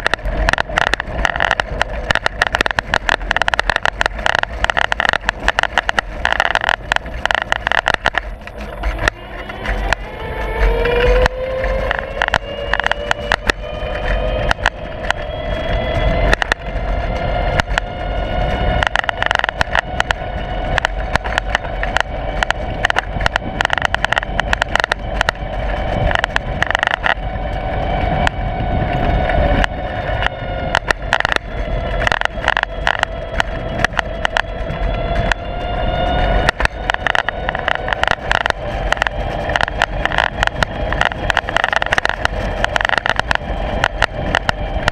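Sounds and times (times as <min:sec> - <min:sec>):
motor whining: 0:06.5 - 0:44.9.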